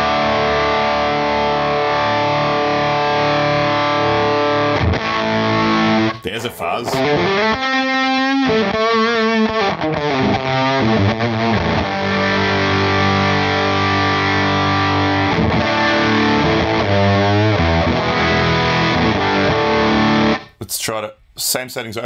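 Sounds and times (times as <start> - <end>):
distorted fuzz electric guitar: 0.0 - 20.5.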